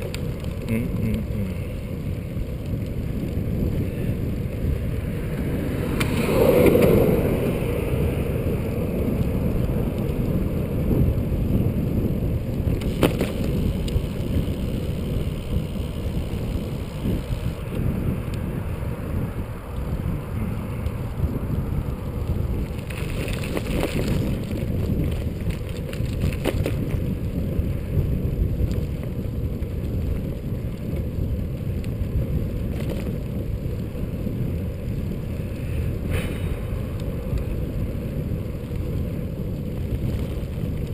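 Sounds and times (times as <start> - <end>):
bicycle tyres rolling on asphalt: 0.0 - 40.9
wind on microphone: 0.0 - 40.9.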